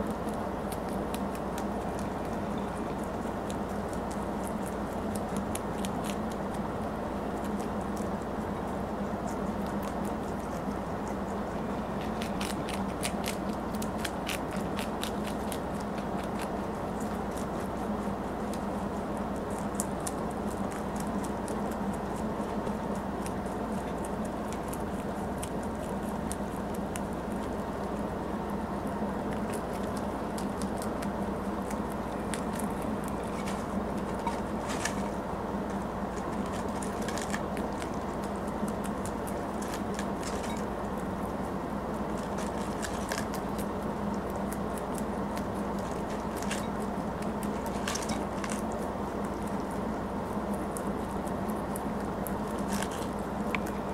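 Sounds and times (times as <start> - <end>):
rabbit chewing kale: 0.0 - 53.9
steady low hum: 0.0 - 53.9.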